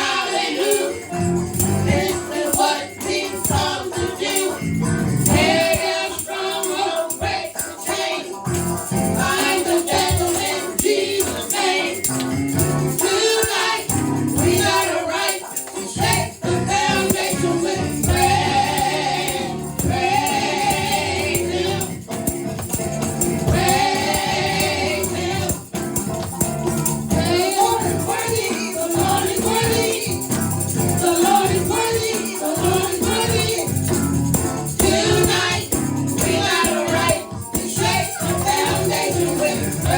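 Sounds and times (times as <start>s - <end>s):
gospel group singing: 0.0s - 39.9s
percussion strokes: 0.0s - 39.9s
live band playing: 1.0s - 5.9s, 8.4s - 39.9s.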